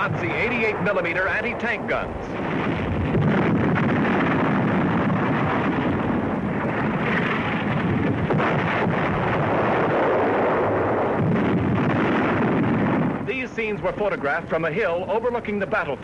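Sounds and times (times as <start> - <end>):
rumble of battle explosions: 0.0 - 16.0.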